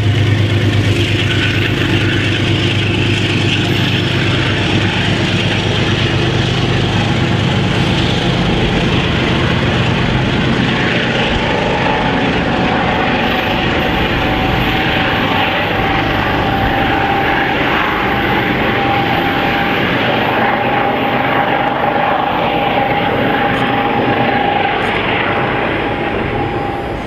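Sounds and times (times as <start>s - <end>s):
diesel locomotive engine droning: 0.0s - 27.0s
thin steady whine: 0.0s - 27.0s.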